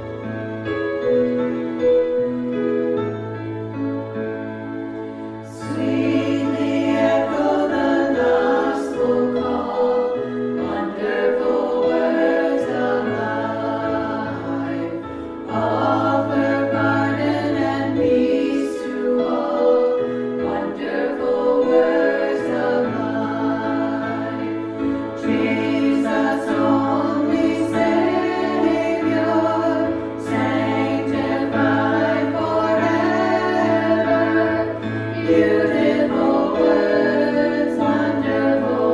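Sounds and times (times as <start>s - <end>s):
choir singing a hymn: 4.8s - 38.9s.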